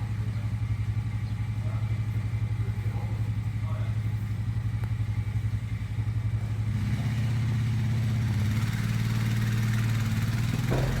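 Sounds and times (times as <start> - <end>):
engine running with pulsing hum: 0.0 - 11.0.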